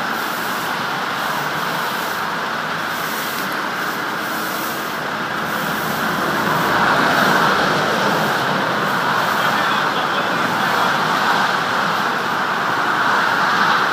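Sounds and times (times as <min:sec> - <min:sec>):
motorway traffic: 0:00.0 - 0:13.9.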